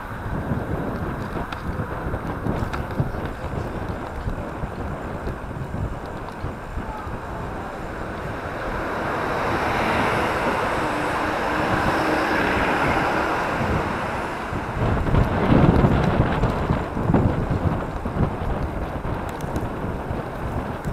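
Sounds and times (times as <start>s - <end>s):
bus passing: 0.0s - 20.9s
traffic noise: 0.0s - 20.9s
wind buffeting microphone: 0.0s - 20.9s.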